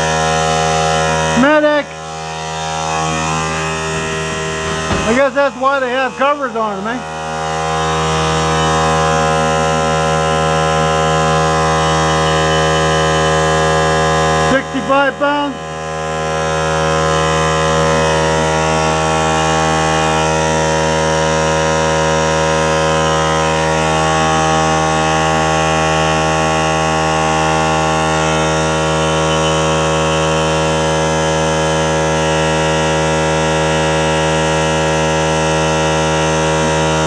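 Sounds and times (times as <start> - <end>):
air compressor humming: 0.0 - 37.0.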